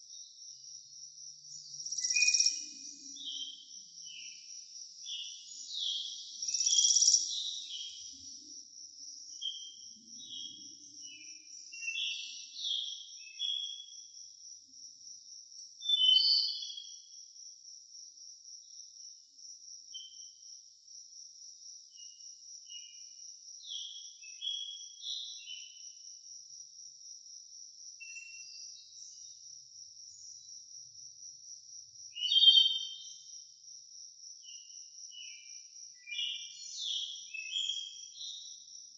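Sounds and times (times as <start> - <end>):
small birds chirping: 0.0 - 17.4, 21.6 - 26.1, 27.9 - 31.2, 32.0 - 33.5, 34.3 - 38.9
high-pitched insect trill: 0.0 - 38.9.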